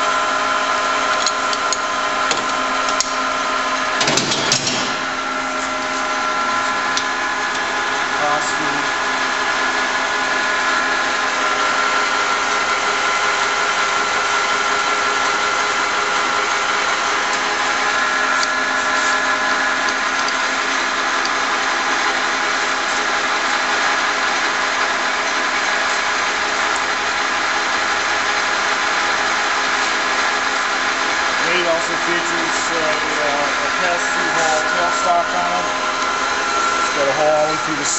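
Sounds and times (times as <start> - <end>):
lathe motor humming and whining: 0.0 - 37.9.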